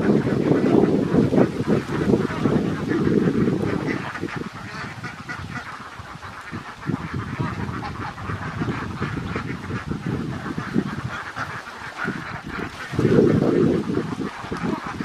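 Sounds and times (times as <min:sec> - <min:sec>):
flock of ducks quacking: 0:00.0 - 0:15.0.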